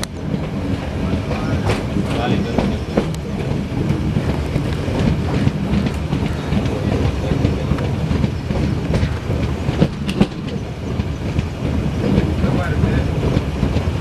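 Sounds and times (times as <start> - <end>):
wheels clicking over rail joints: 0.0 - 14.0
wheels rumbling on rail: 0.0 - 14.0.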